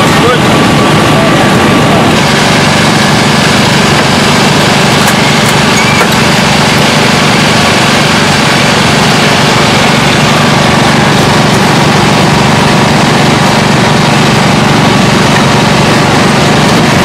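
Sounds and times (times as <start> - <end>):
small gasoline engine droning: 0.0 - 17.0.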